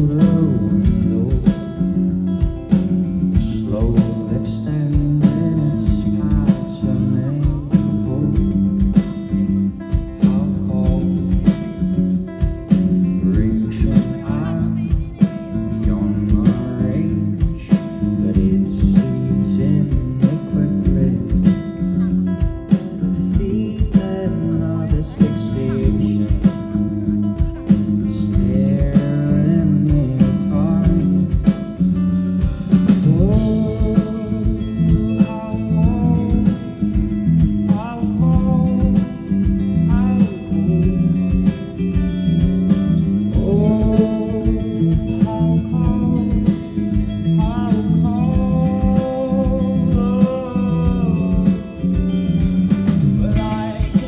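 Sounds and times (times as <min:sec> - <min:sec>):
live rock band playing: 0:00.0 - 0:54.0
person singing lead vocal: 0:00.0 - 0:54.0.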